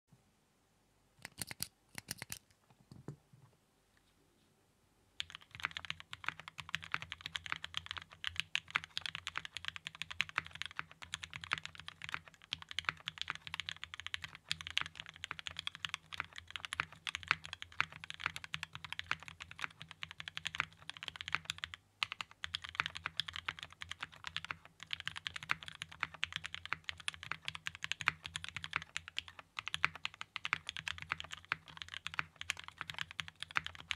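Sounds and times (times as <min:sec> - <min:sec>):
typing on mechanical keyboard: 0:01.2 - 0:02.4, 0:05.2 - 0:33.9.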